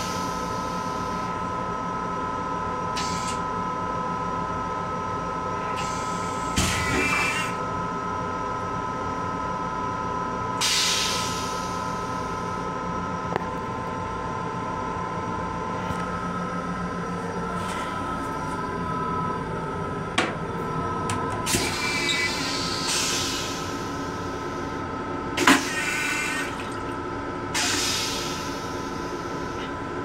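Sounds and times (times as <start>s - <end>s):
train whine: 0.0s - 3.9s, 8.8s - 30.0s.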